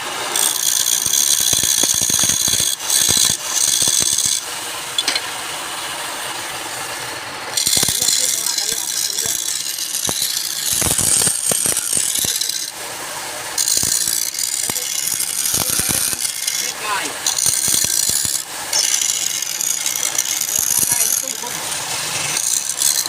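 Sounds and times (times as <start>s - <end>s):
chisel cutting spinning wood: 0.0s - 23.0s
wood lathe turning: 0.0s - 23.0s.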